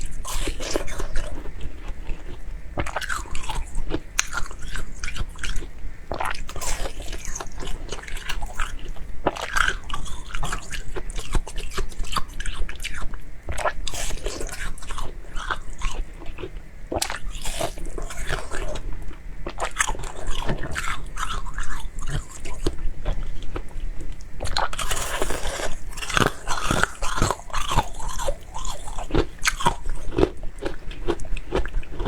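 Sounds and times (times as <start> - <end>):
person chewing and crunching food: 0.0 - 32.0.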